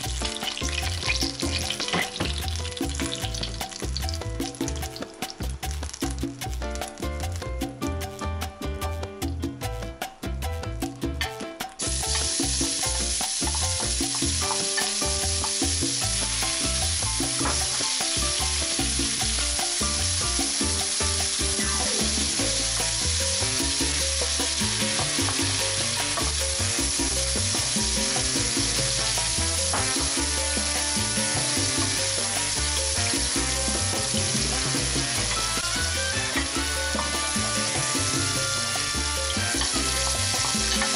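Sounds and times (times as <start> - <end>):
onion sizzling in hot oil: 0.0 - 7.4, 11.8 - 40.9
background music: 0.0 - 40.9.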